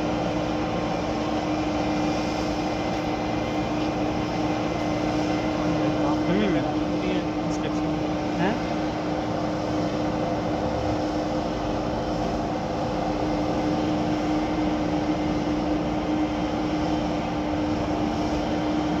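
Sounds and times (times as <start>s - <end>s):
construction machinery engine drone: 0.0s - 19.0s.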